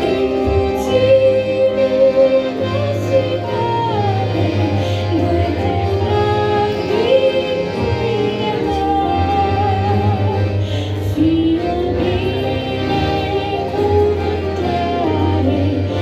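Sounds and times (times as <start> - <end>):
instrumental accompaniment: 0.0 - 16.0
woman singing into microphone: 0.0 - 16.0.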